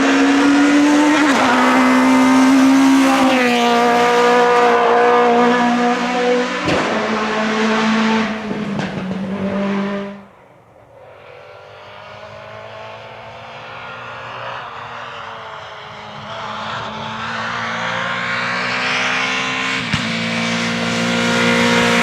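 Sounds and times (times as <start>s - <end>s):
rally car engine revving: 0.0s - 10.3s, 11.1s - 22.0s.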